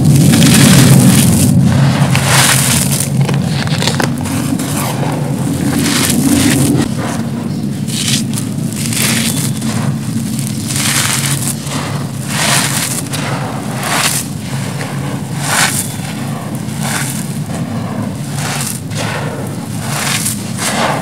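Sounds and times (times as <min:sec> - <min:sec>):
concrete grit crunching: 0:00.0 - 0:21.0
steady low hum: 0:00.0 - 0:21.0.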